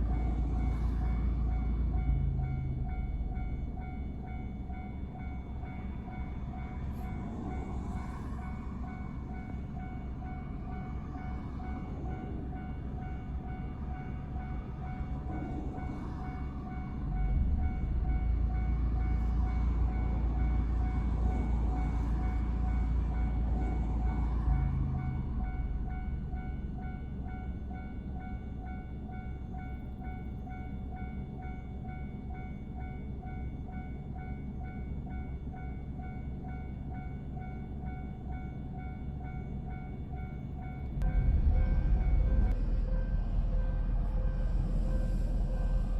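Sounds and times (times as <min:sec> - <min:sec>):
level-crossing warning bell: 0:00.0 - 0:45.9
train rumble: 0:00.0 - 0:45.9.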